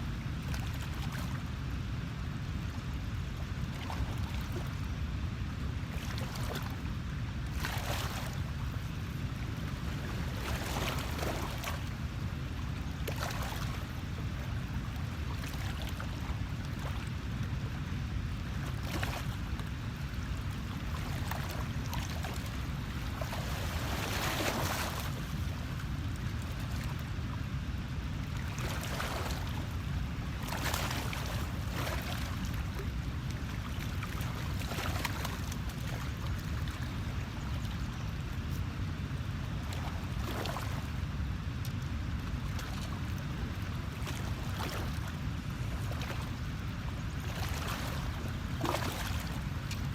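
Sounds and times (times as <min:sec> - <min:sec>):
water washing and lapping: 0:05.9 - 0:37.8, 0:38.4 - 0:49.9.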